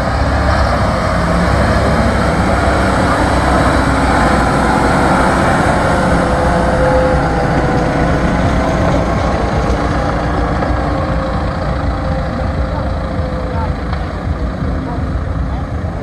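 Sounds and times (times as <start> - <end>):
diesel tractor engines under load: 0.0 - 16.0.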